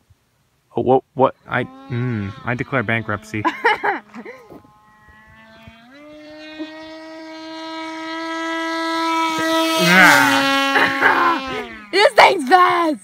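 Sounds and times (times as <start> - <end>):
electric motor whine: 1.4 - 12.7.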